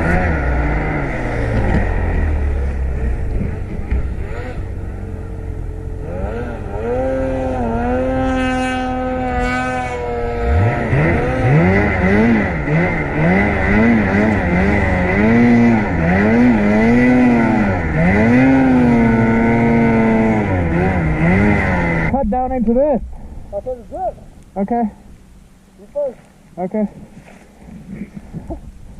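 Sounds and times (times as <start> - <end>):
snowmobile engines revving: 0.0 - 24.8.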